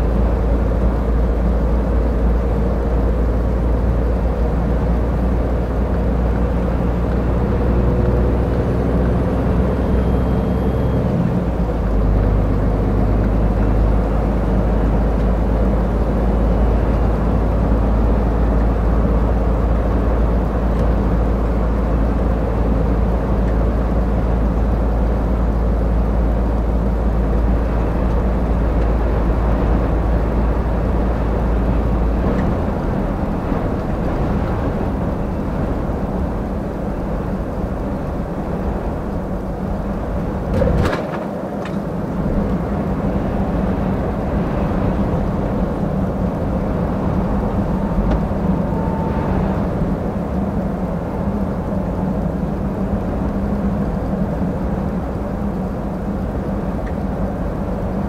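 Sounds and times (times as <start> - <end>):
truck diesel engine drone: 0.0 - 58.0
tyre and road noise: 0.0 - 58.0.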